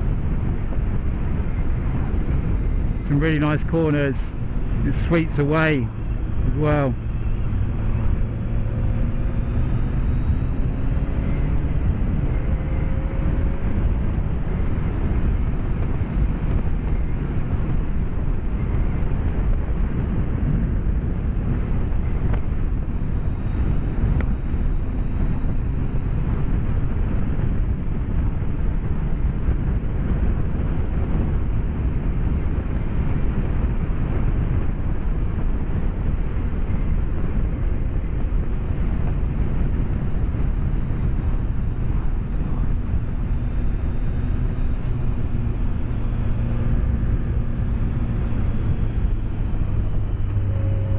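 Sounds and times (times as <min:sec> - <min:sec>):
motorcycle engine revving: 0:00.0 - 0:31.6, 0:32.2 - 0:50.9
wind rush and road noise: 0:00.0 - 0:50.9.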